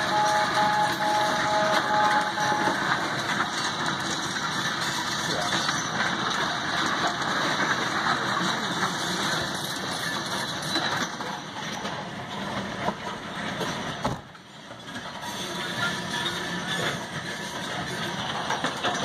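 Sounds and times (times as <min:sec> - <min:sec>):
freight cars rumbling on rail: 0:00.0 - 0:19.0.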